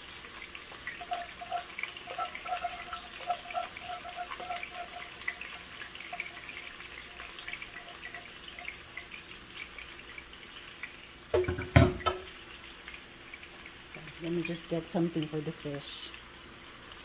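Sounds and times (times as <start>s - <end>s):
hot oil crackling and popping: 0.0s - 17.0s.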